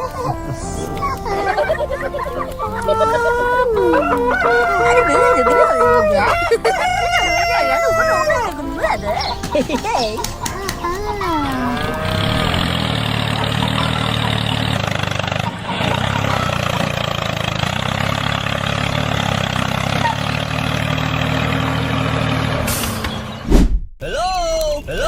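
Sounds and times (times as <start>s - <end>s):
tractor engine running: 0.0s - 23.4s.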